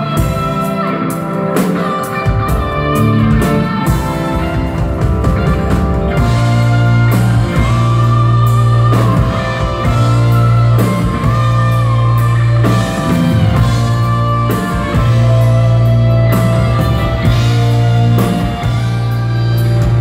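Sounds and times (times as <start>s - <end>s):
electric guitar lead notes: 0.0s - 20.0s
live rock band playing: 0.0s - 20.0s
deep bass notes: 2.2s - 20.0s.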